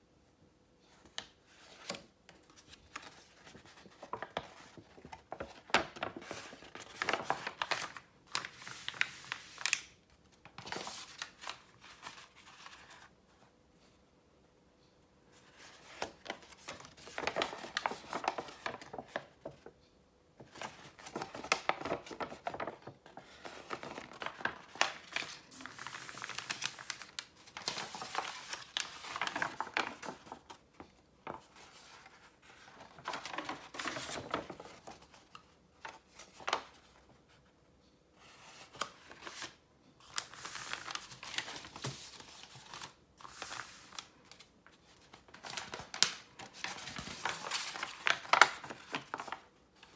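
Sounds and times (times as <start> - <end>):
paper rustling and crinkling: 0.9 - 13.1, 15.4 - 19.8, 20.4 - 37.4, 38.2 - 49.9.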